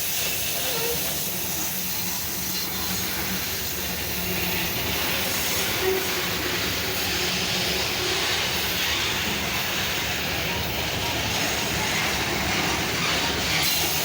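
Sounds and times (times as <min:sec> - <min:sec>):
steel wheels on rails: 0:00.0 - 0:14.0.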